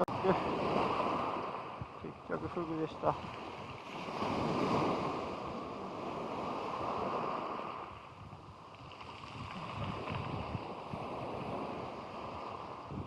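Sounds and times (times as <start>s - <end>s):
sea waves washing onto beach: 0.0s - 13.0s
wind on microphone: 0.0s - 13.0s.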